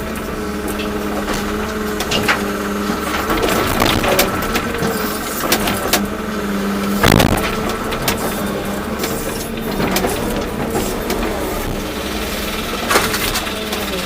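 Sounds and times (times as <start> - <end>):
excavator diesel engine running: 0.0 - 14.0
knocks and clanks: 0.0 - 14.0.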